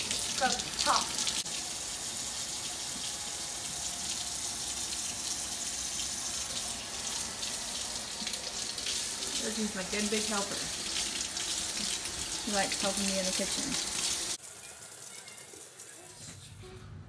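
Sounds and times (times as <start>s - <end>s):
faucet running into steel sink: 0.0s - 16.1s.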